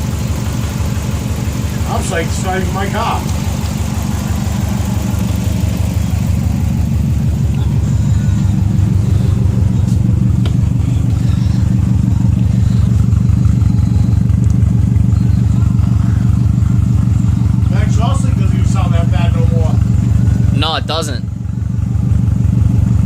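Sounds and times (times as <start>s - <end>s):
car engine exhaust rumble: 0.0s - 23.0s.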